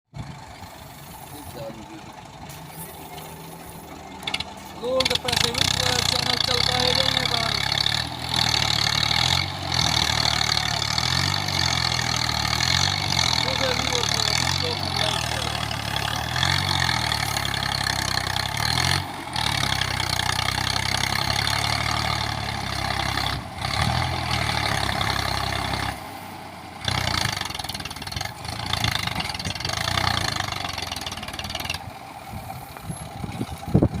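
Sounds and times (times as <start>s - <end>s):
tractor diesel engine running: 0.1s - 34.0s.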